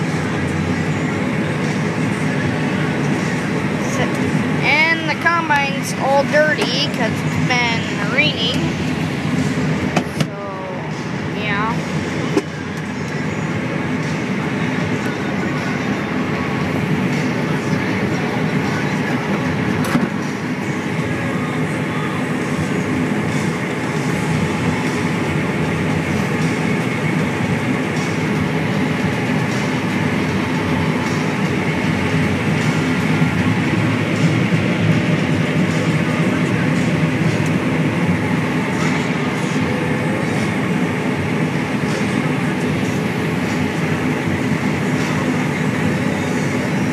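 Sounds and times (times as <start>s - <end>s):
combine harvester engine drone: 0.0s - 46.9s.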